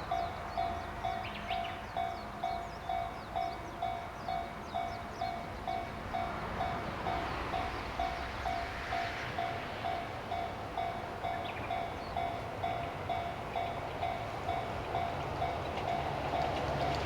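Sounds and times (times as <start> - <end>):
level-crossing warning bell ringing: 0.0 - 16.6.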